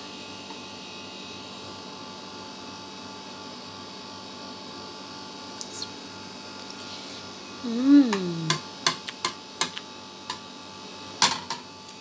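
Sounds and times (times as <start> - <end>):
background hum with whining tones: 0.0 - 12.0.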